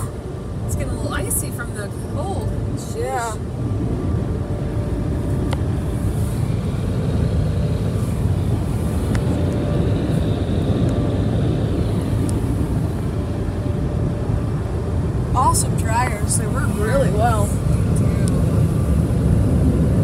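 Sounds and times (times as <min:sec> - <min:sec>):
car wash air dryers blowing: 0:00.0 - 0:20.0.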